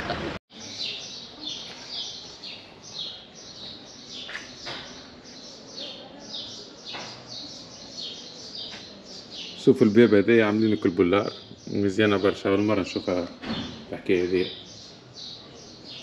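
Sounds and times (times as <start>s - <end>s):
small birds chirping: 0.5s - 16.0s.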